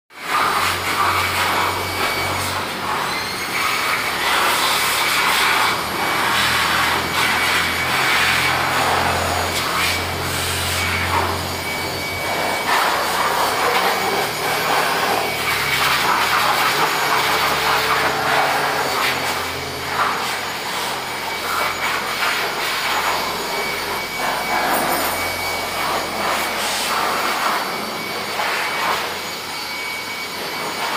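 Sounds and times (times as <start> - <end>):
electric blower running: 0.1 - 30.9.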